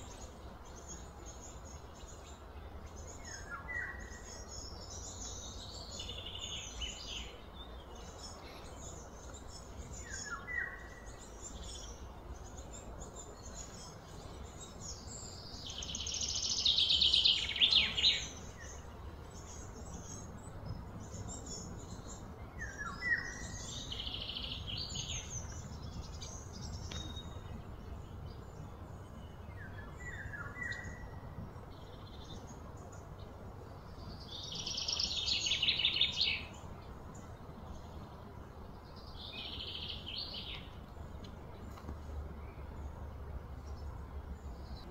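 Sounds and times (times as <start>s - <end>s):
birds chirping: 0.0s - 44.9s
low background rumble: 0.0s - 44.9s.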